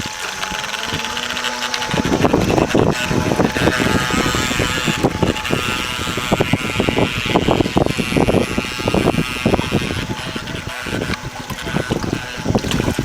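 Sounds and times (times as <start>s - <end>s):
electric motor whine: 0.0s - 13.0s
rough crackling noise: 0.0s - 13.0s.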